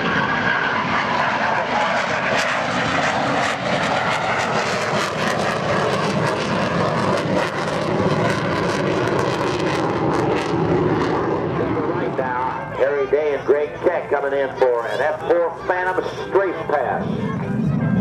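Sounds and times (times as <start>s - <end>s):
jet engines roaring with crackling: 0.0s - 18.0s.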